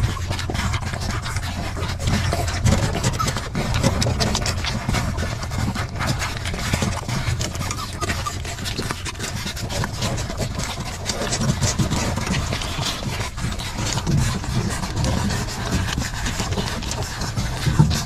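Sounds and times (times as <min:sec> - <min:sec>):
puppies nursing wet sucking: 0:00.0 - 0:18.0.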